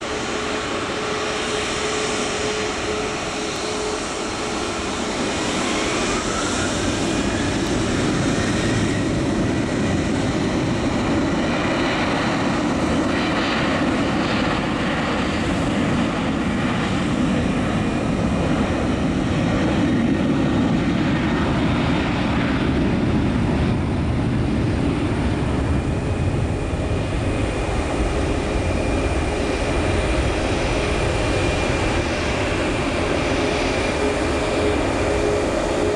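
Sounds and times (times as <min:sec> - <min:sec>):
jet engine rumble and hiss: 0:00.0 - 0:35.9.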